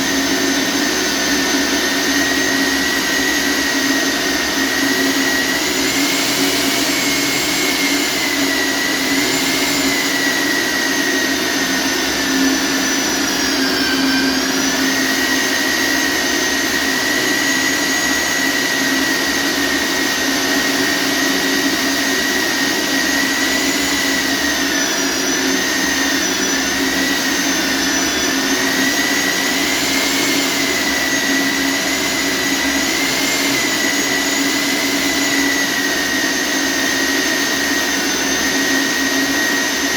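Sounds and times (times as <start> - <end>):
core drill motor whining: 0.0 - 39.9.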